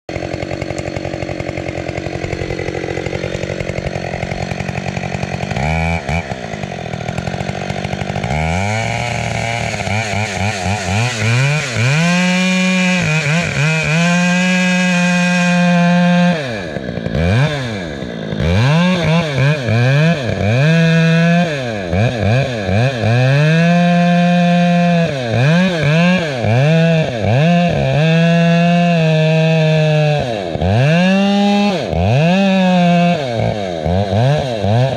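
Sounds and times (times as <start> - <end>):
chainsaw revving: 0.1 - 34.9.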